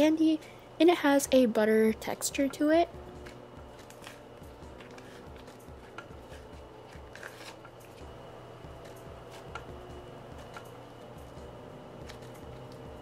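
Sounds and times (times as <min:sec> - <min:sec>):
quiet background music with beat: 0:00.0 - 0:13.0.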